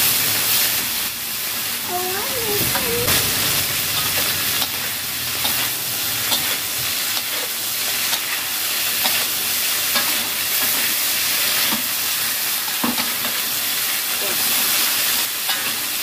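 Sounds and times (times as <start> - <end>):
beans sizzling in a wok: 0.0 - 16.0.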